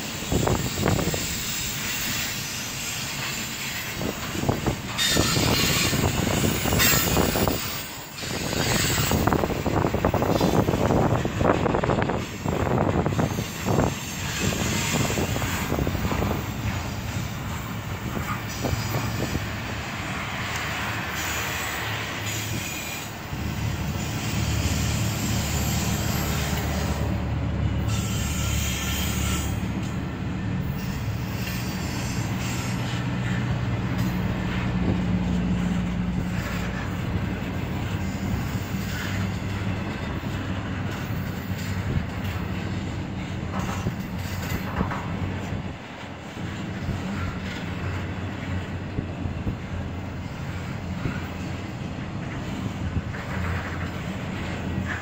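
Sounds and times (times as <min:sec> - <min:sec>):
freight train rumbling on rails: 0:00.0 - 0:55.0
train wheel squeal: 0:00.0 - 0:55.0.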